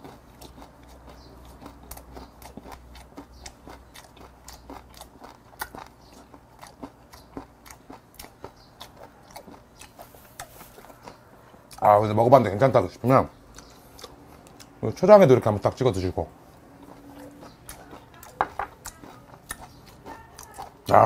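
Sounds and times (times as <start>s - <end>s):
crunchy chewing: 0.0s - 14.8s, 15.5s - 21.0s.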